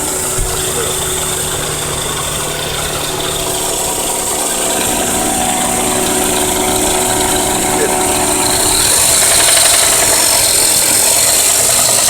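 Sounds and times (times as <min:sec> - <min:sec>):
car engine knocking: 0:00.0 - 0:12.0.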